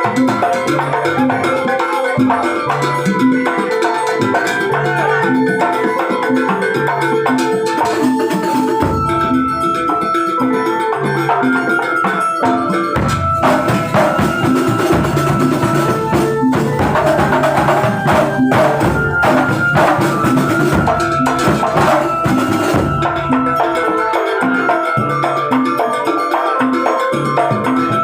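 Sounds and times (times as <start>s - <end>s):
short pitched percussion notes: 0.0s - 28.0s.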